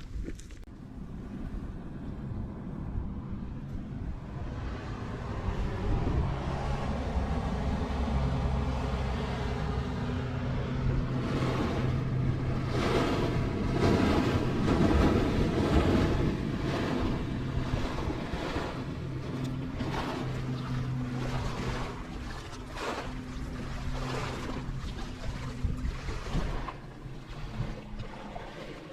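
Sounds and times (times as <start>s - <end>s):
motorboat engine running: 0.0s - 28.9s
water rushing: 4.1s - 28.9s.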